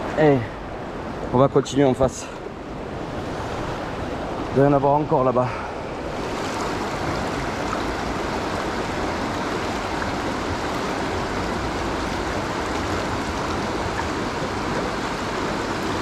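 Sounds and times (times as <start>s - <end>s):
river water rushing over stones: 0.0s - 16.0s.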